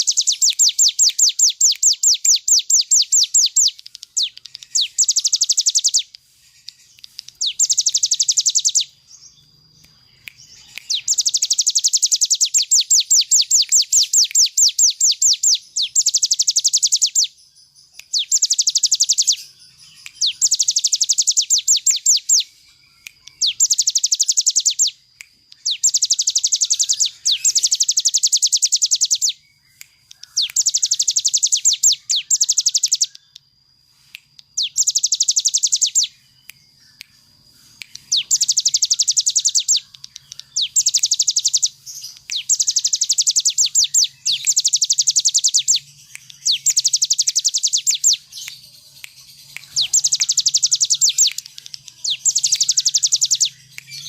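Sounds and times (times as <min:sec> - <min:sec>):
bird singing rapid trill: 0:00.0 - 0:33.5, 0:34.4 - 0:54.0.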